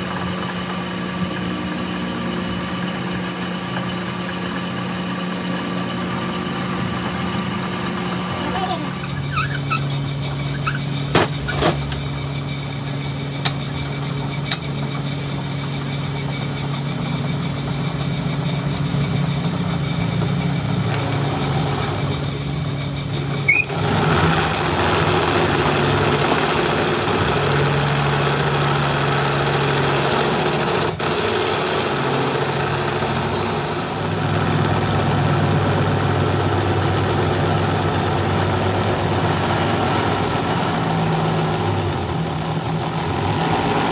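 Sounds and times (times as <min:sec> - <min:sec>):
machine motor humming: 0:00.0 - 0:43.9
rough machine noise: 0:00.0 - 0:43.9.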